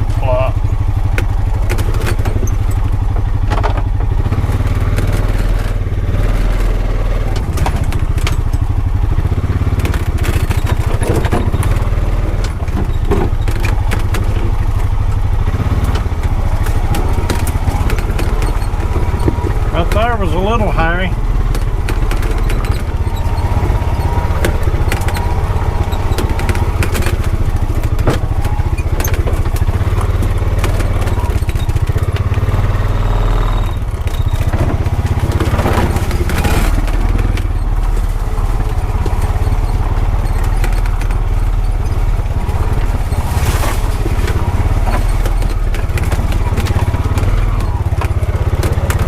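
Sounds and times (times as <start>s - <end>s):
knocks and rattles: 0.0s - 49.0s
utility vehicle engine running: 0.0s - 49.0s.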